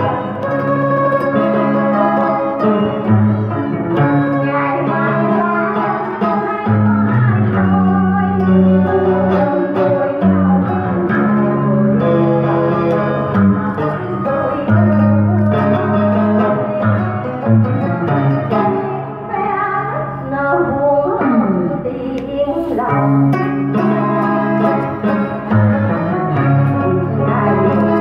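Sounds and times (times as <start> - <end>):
guitar backing track: 0.0 - 28.0
woman singing into a microphone: 0.0 - 28.0.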